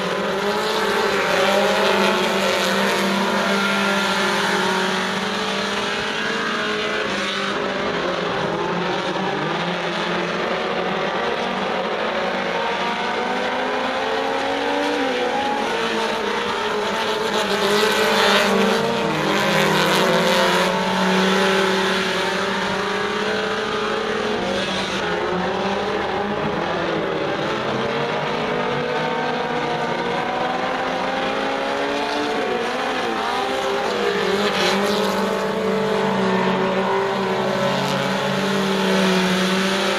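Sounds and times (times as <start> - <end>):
race car engines lapping: 0.0 - 39.9.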